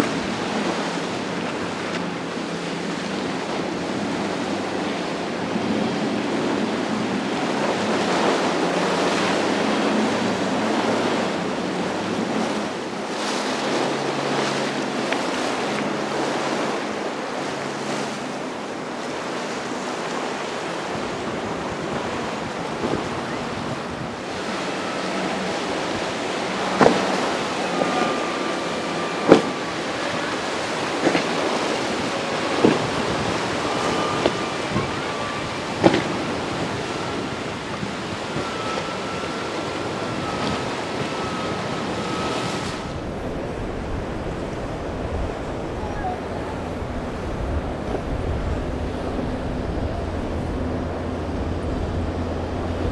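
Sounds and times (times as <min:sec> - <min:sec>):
faint boat engine drone: 0:00.0 - 0:52.9
surf and breaking waves: 0:00.0 - 0:52.9
wind buffeting microphone: 0:00.0 - 0:52.9.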